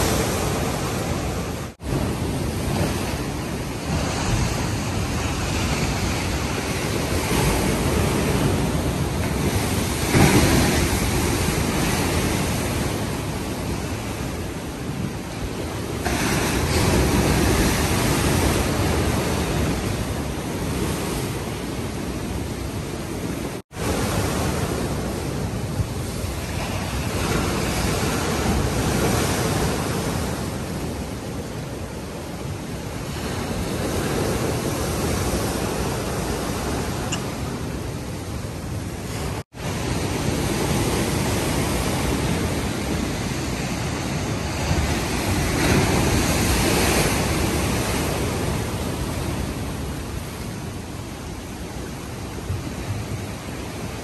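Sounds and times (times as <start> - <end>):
heavy surf breaking on seawall: 0.0 - 54.0.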